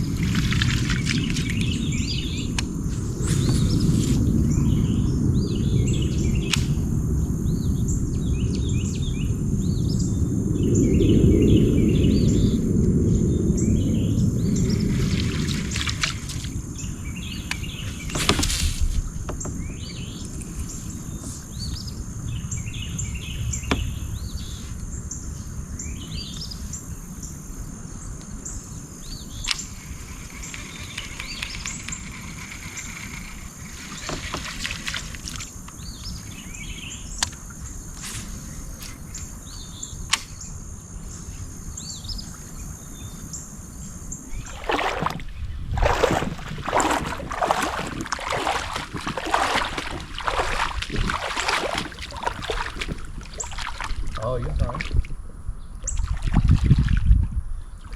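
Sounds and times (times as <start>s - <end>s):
birds chirping: 0.0s - 54.8s
low wind rumble: 0.0s - 57.9s.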